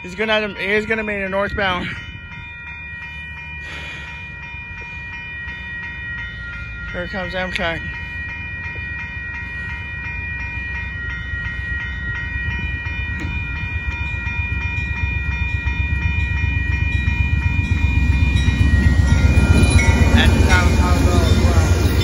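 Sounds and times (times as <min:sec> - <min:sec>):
locomotive low rumble: 0:00.0 - 0:22.0
railroad crossing bell ringing: 0:00.0 - 0:22.0.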